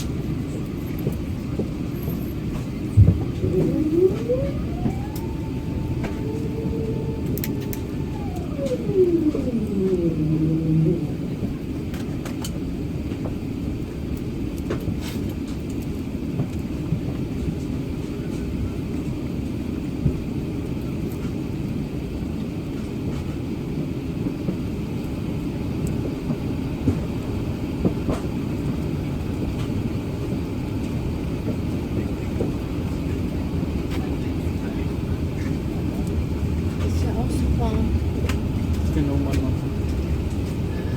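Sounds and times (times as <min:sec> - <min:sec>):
low rumble of aircraft engines: 0:00.0 - 0:40.9.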